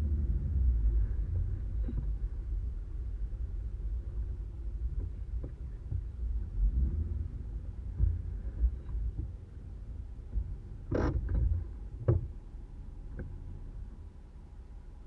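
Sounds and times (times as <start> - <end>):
off-road vehicle rumble: 0.0 - 15.0.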